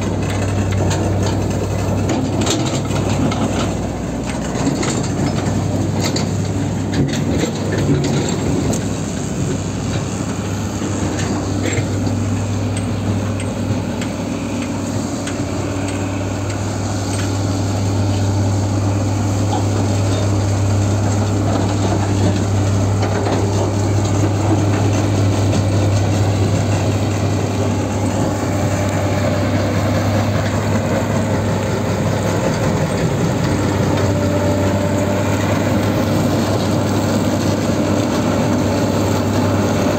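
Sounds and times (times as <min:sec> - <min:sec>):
low diesel drone: 0:00.0 - 0:39.9.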